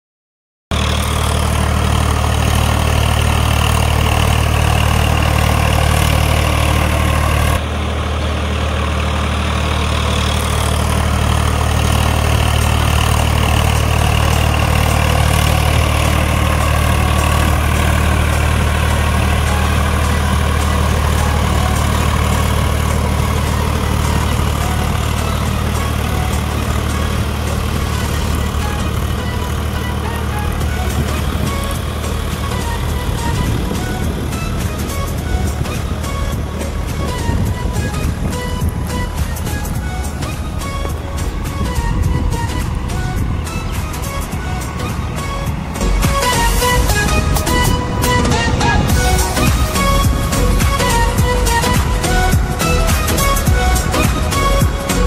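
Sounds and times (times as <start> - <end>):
tractor diesel engine under load: 0.7 - 55.0.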